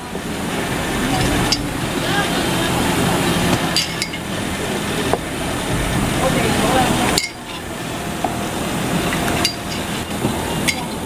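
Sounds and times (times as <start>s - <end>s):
background voices: 0.0s - 11.0s
steady low hum: 0.0s - 11.0s.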